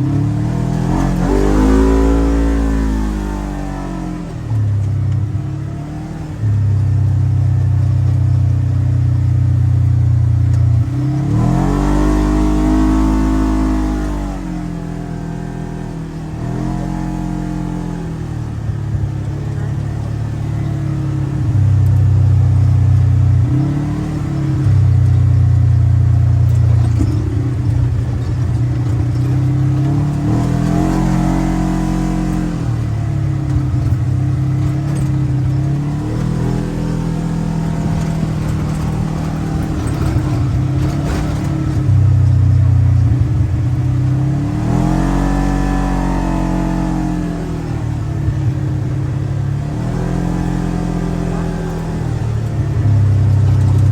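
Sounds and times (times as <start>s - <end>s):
engine revving under load: 0.0s - 53.9s.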